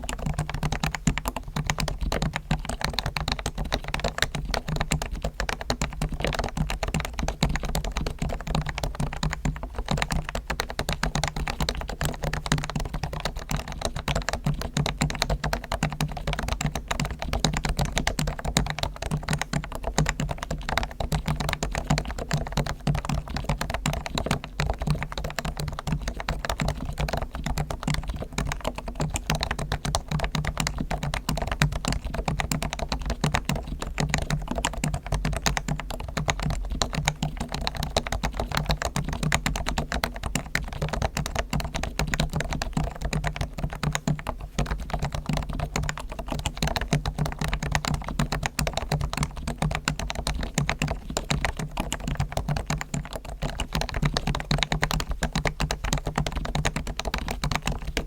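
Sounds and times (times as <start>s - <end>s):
soft keyboard typing: 0.0s - 58.0s.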